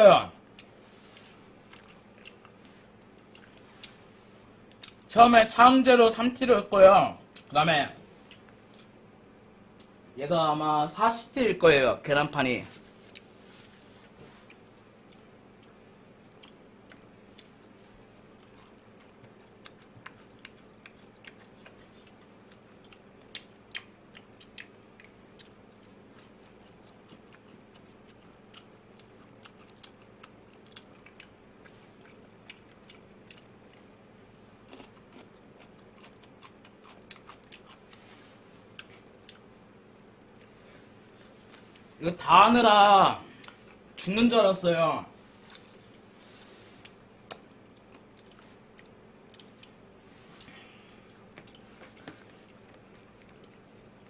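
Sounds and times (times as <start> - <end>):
low electrical hum: 0.0 - 54.0
chewing crispy food: 0.4 - 5.2, 12.8 - 44.0, 45.3 - 54.0.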